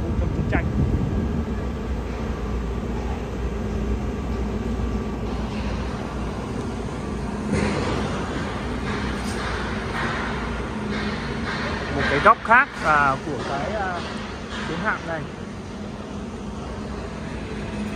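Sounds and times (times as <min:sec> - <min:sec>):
outdoor city noise: 0:00.0 - 0:17.9.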